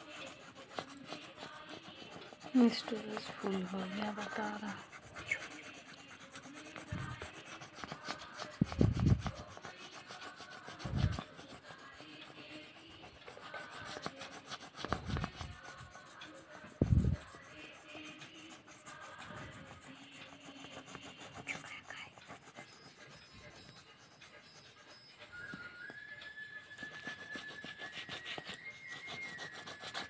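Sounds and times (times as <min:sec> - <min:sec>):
pen scratching on paper: 0:00.0 - 0:25.7, 0:26.5 - 0:30.0.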